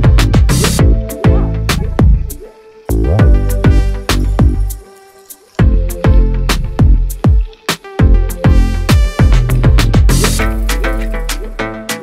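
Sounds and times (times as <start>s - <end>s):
electronic music with heavy drums: 0.0s - 4.8s, 5.6s - 12.0s.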